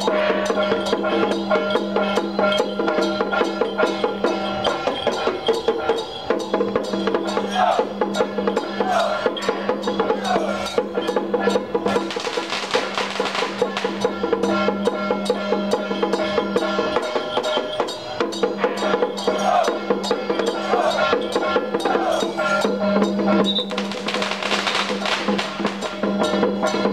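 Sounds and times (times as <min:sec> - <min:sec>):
fast percussion strokes: 0:00.0 - 0:26.9.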